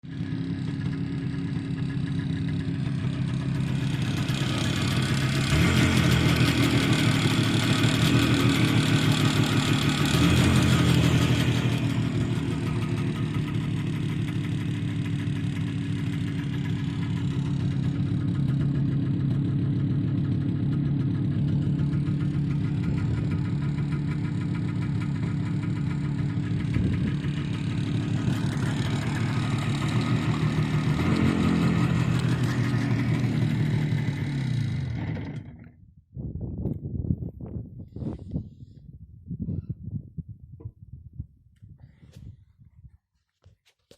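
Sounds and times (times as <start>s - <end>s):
engine knock: 0.0s - 35.7s
motorcycle engine revving and idling: 0.0s - 38.8s.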